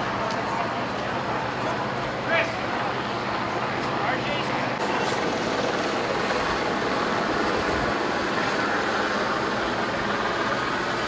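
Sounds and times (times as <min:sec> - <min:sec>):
steady engine drone: 0:00.0 - 0:11.0.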